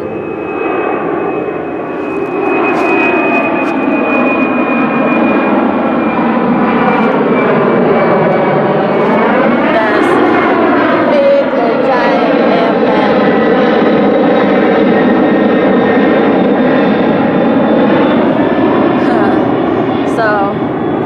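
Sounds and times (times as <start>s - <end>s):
thin high whine: 0.0s - 20.8s
low-flying airplane engine roar: 0.0s - 21.0s.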